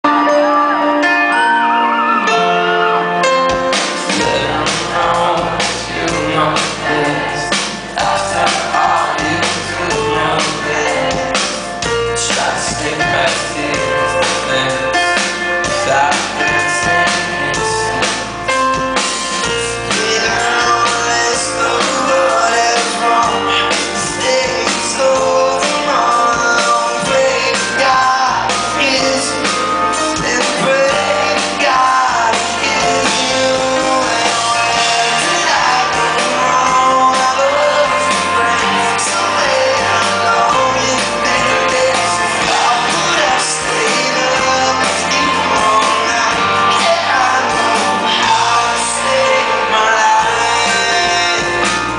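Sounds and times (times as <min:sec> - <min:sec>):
electric guitar: 0:00.0 - 0:51.9
grand piano: 0:00.0 - 0:51.9
live rock band: 0:00.0 - 0:51.9
lead vocals singing: 0:00.1 - 0:18.4, 0:19.0 - 0:51.9.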